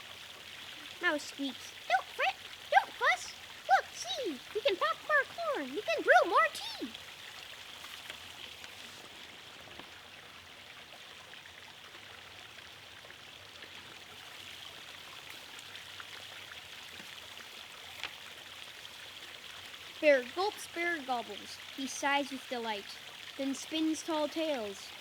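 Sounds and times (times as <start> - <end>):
faint background hiss: 0.0 - 25.0.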